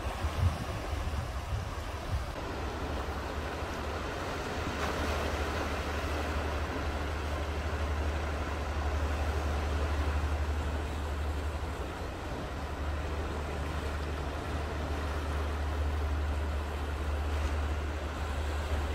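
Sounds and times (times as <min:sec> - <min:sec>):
sea water washing over rocks: 0:00.0 - 0:18.9.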